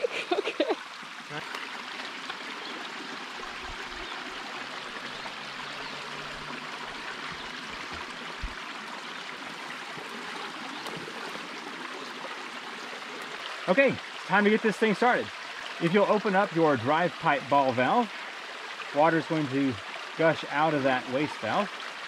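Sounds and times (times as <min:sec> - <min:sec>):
creek flowing over rocks: 0:00.0 - 0:22.0.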